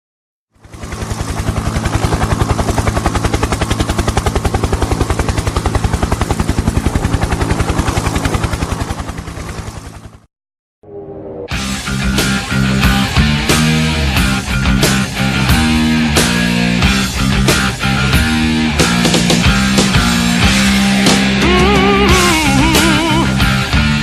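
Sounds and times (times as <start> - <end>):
helicopter rotor beating: 0.5 - 10.3, 11.5 - 24.0.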